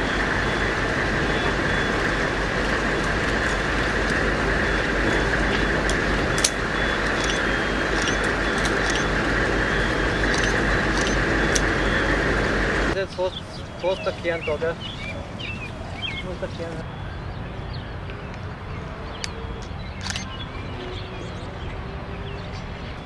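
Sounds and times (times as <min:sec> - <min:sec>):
loud mechanical running noise: 0:00.0 - 0:23.0.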